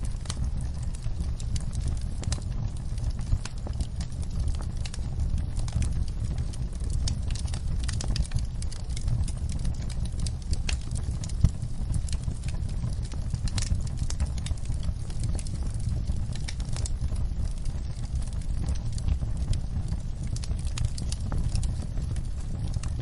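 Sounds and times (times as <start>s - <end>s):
low rumble of burning: 0.0s - 23.0s
wood fire pops and snaps: 0.0s - 23.0s.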